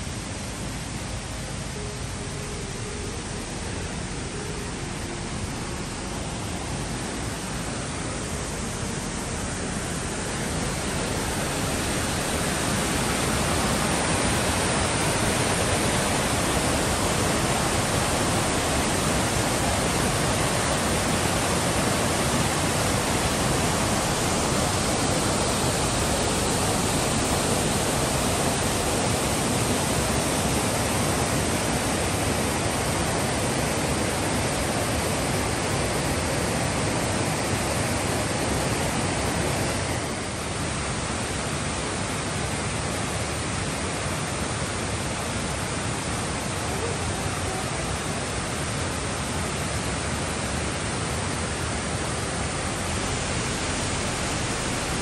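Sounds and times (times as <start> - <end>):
water rushing over rocks: 0.1 - 55.0.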